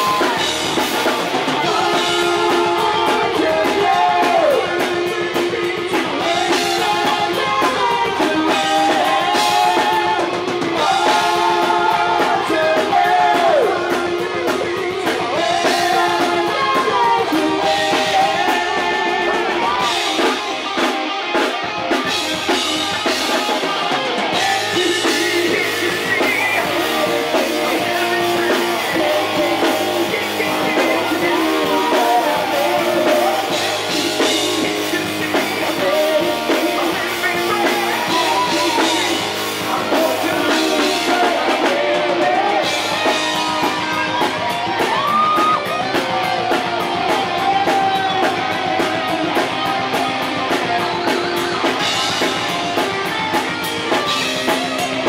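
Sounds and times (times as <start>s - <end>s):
backing vocals: 0.0s - 20.9s, 22.0s - 53.3s
heavy metal band playing live: 0.0s - 55.0s
male lead singer: 0.0s - 55.0s.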